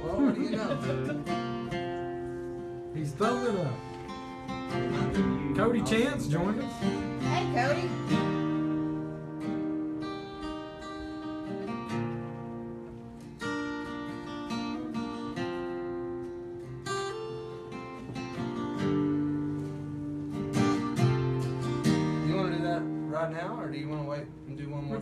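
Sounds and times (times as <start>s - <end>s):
acoustic guitar strummed and picked: 0.0s - 25.0s.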